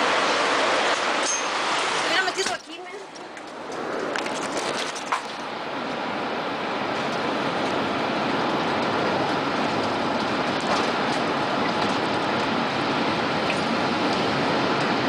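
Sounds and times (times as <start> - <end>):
tornado wind roaring: 0.0 - 15.0.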